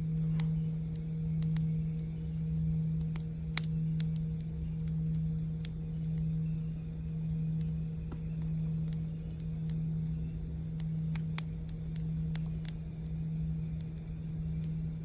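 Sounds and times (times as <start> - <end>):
campfire crackling and popping: 0.0 - 15.0
singing bowl humming: 0.0 - 15.0.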